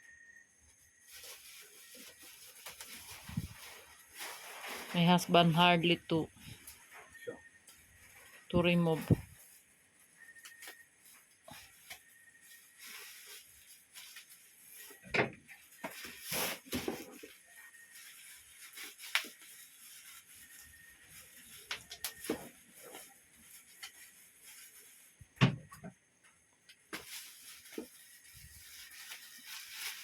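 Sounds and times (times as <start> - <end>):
bubble wrap crinkling: 0.9 - 25.3, 26.6 - 30.0.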